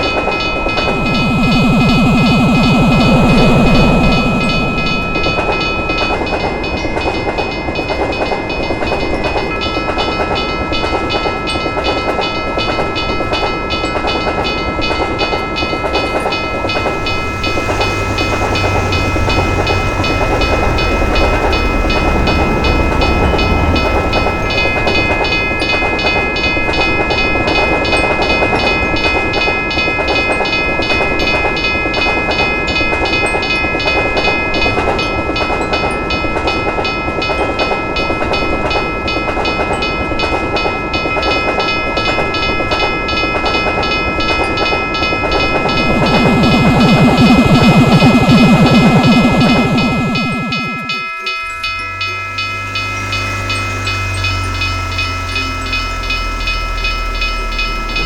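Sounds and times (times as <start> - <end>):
low train rumble: 0.0 - 58.0
railroad crossing bell ringing: 0.0 - 58.0
train wheels clattering on rails: 0.0 - 58.0.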